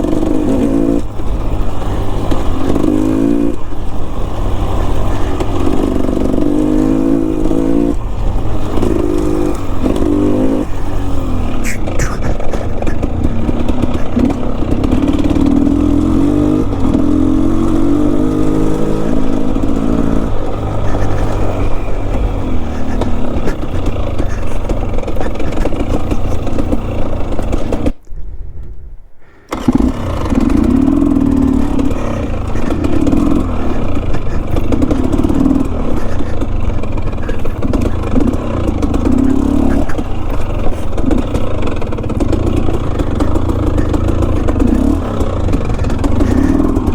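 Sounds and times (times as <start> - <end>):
dirt bike engine revving: 0.0 - 28.0, 29.4 - 46.9
knocking and clatter from bike: 0.0 - 28.1, 29.6 - 46.9.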